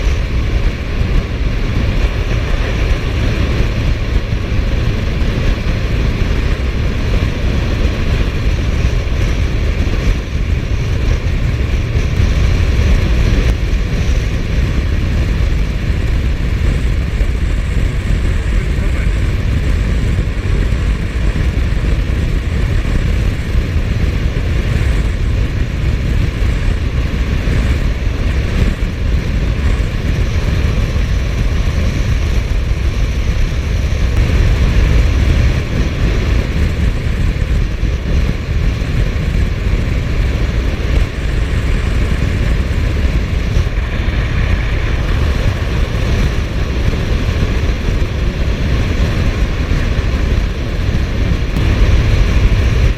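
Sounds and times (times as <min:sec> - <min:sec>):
motorcycle engine running: 0:00.0 - 0:52.9
wind rush and road noise: 0:00.0 - 0:52.9.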